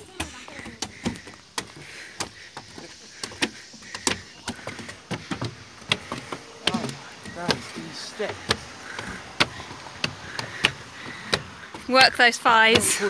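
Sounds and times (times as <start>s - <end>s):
footsteps on wooden stairs: 0.0s - 13.0s
hard breathing: 0.0s - 13.0s.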